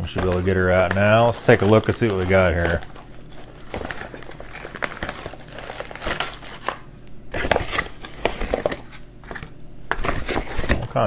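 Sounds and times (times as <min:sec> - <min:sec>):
cardboard cartons clacking: 0:00.0 - 0:11.0
plastic bag crinkling: 0:00.0 - 0:11.0.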